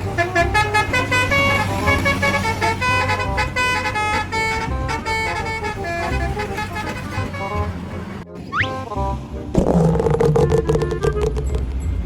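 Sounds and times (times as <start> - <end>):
multi-tone bus air horn tune: 0.0 - 9.4, 10.4 - 11.6
low vehicle hum: 0.0 - 12.0.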